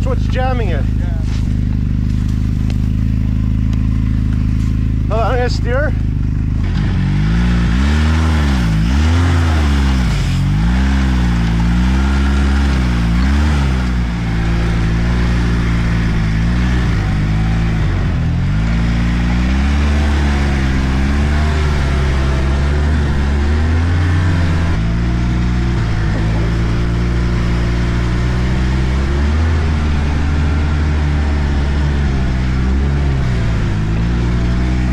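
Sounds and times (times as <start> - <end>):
snowmobile engine revving: 0.0 - 34.9.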